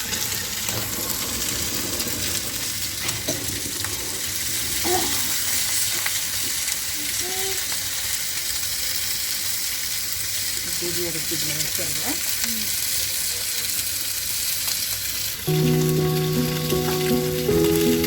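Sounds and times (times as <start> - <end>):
fish sizzling: 0.0 - 18.0.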